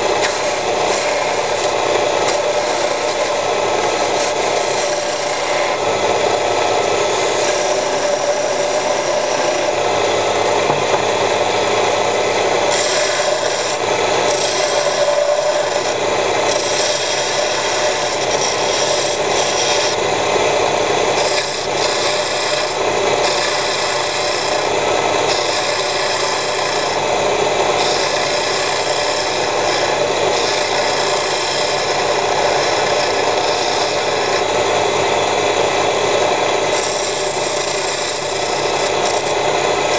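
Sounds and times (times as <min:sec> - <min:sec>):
hand tool scraping spinning wood: 0:00.0 - 0:39.9
wood lathe humming: 0:00.0 - 0:39.9.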